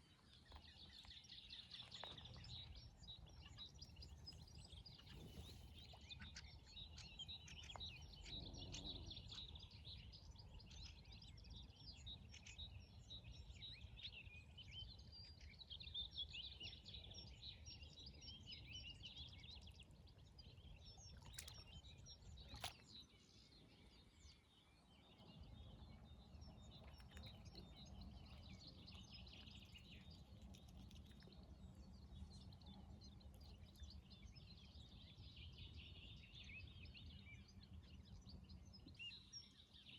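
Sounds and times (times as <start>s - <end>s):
low steady background rumble: 0.0s - 39.9s
small birds chirping and singing: 0.0s - 39.9s.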